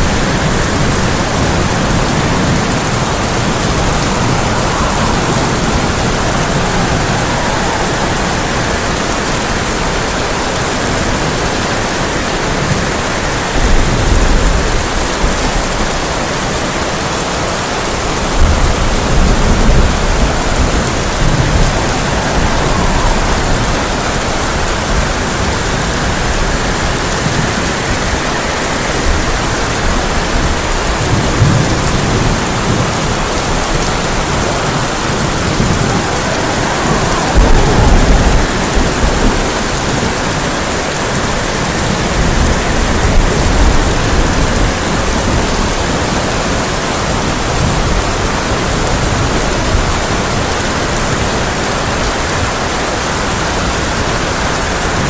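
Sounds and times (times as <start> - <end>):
heavy rain on a tin roof: 0.0 - 55.0
rolling thunder: 0.0 - 55.0.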